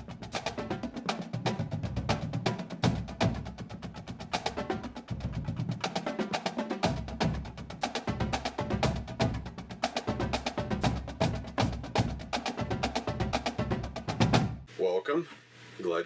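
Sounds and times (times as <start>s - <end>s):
steady drum beat: 0.0s - 14.7s.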